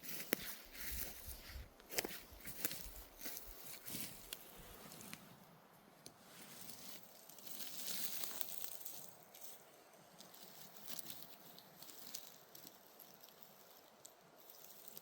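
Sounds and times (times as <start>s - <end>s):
rustling of forest litter: 0.0s - 15.0s.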